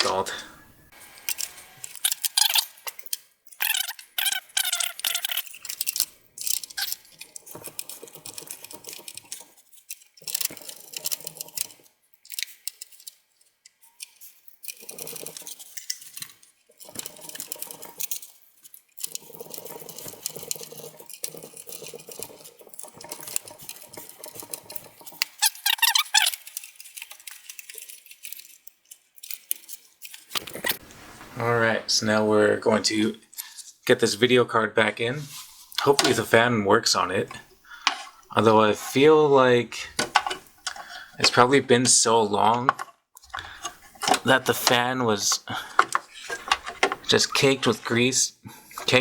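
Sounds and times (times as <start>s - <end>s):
fan scraping and rubbing: 0.0s - 11.9s, 14.0s - 28.4s, 30.1s - 33.6s, 35.2s - 42.0s, 42.7s - 49.0s
plastic and metal clatter: 1.2s - 31.7s, 35.4s - 39.2s, 39.8s - 48.1s, 48.7s - 49.0s.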